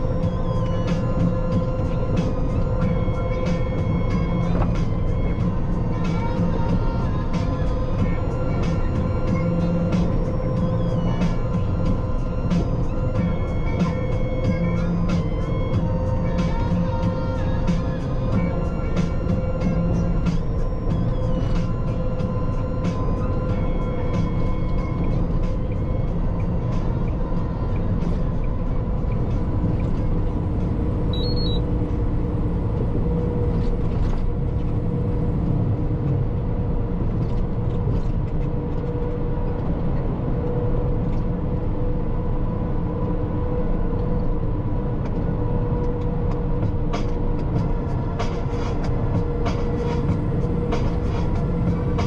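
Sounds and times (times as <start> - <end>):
constant hum: 0.0 - 52.0
diesel engine drone: 0.0 - 52.0
tyre and road noise: 0.0 - 52.0.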